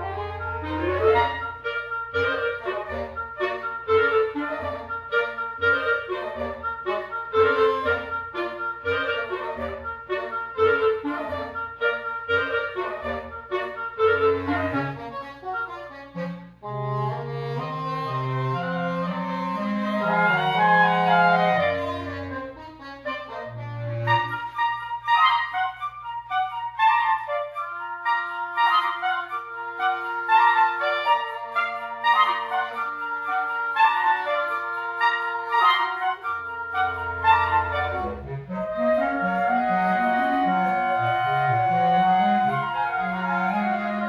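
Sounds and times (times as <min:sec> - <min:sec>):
woodwind quintet playing: 0:00.0 - 0:44.0.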